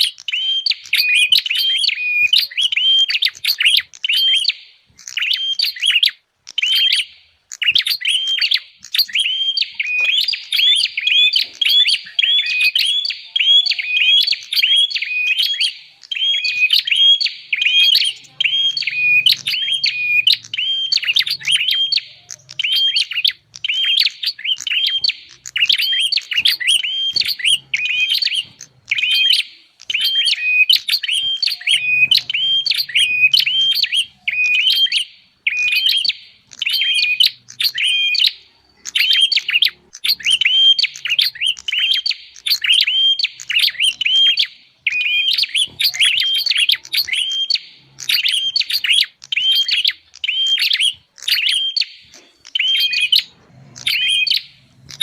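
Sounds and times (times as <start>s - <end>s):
bird chirping sharply: 0.0s - 55.0s.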